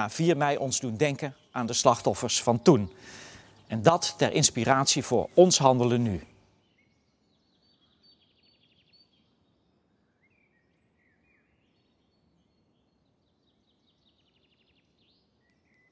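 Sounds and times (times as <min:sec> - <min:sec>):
songbirds trilling and chirping: 0:00.0 - 0:15.9.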